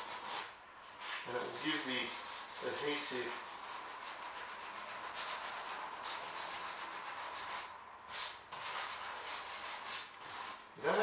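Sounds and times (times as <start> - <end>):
sandpaper rubbing on plastic: 0.0 - 11.0.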